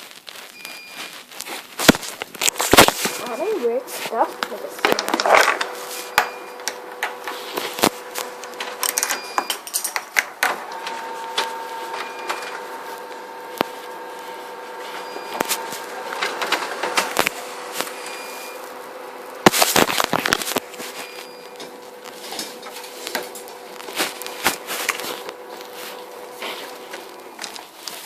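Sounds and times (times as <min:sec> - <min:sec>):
faint steady hum: 0:00.3 - 0:28.0.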